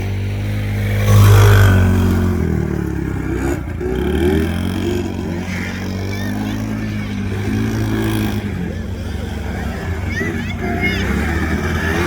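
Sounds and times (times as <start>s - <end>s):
quad bike engine revving: 0.0s - 12.0s.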